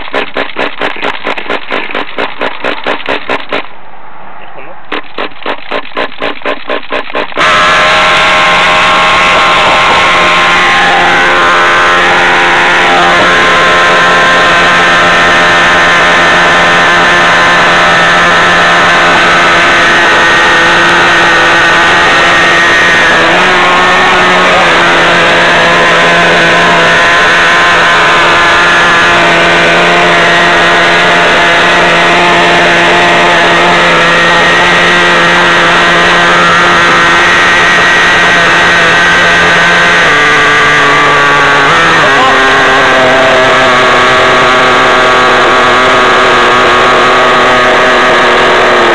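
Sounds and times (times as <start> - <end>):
toy car motor running: 0.0 - 3.7, 4.9 - 48.9.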